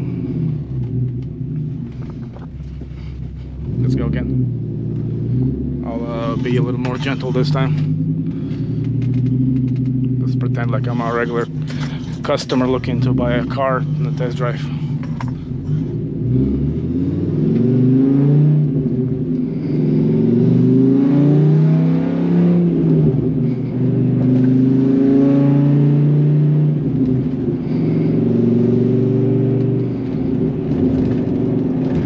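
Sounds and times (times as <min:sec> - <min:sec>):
truck engine revving through gears: 0:00.0 - 0:32.0.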